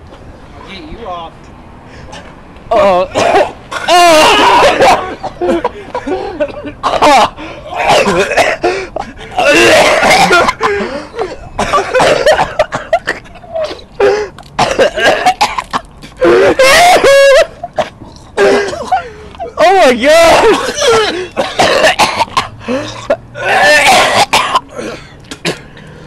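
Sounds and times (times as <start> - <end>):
man retching and coughing: 2.8 - 19.1, 20.3 - 25.8.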